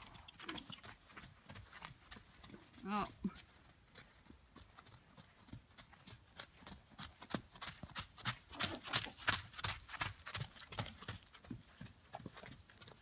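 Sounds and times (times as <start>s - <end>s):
hoofbeats on dirt: 0.0s - 13.0s.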